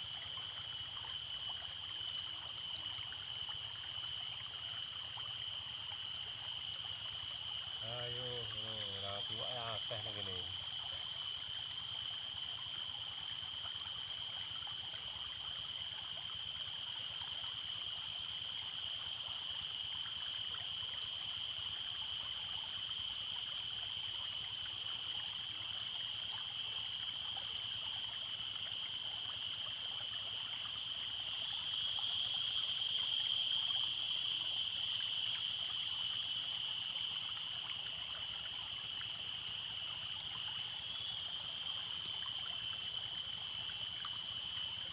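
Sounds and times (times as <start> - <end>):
high-pitched insect chorus: 0.0 - 44.9
stream water trickling: 0.0 - 44.9.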